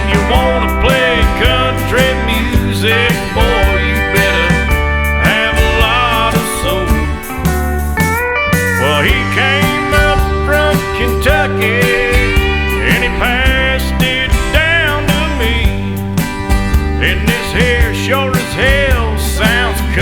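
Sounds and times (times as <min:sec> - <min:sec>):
country song with guitars: 0:00.0 - 0:20.0.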